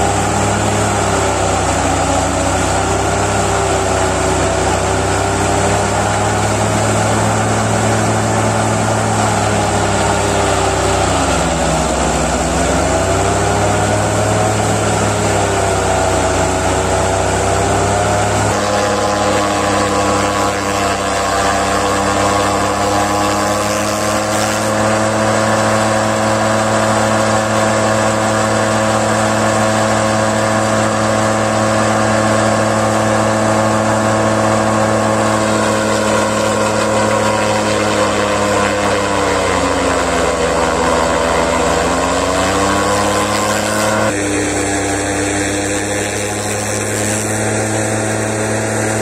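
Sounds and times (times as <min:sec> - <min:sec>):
tractor driven forage chopper: 0:00.0 - 0:49.0.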